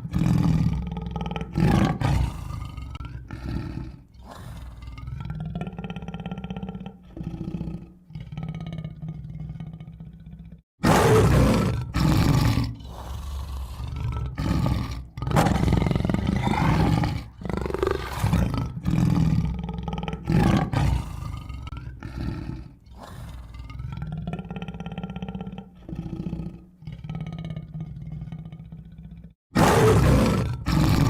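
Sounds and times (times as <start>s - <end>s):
tiger roaring and growling: 0.0s - 31.0s.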